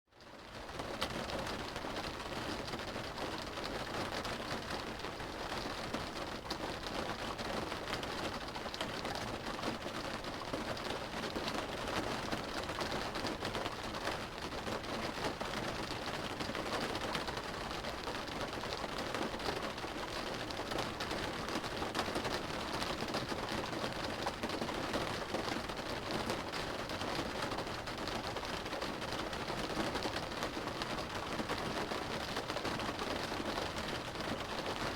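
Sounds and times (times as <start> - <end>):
rain drumming on car roof: 0.5 - 34.9.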